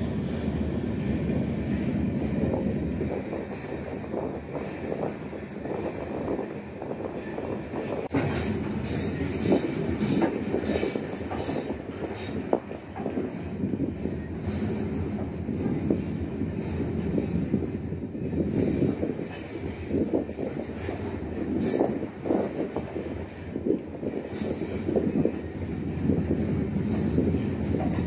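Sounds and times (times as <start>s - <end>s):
train wagon rumbling and rattling: 0.0s - 28.0s.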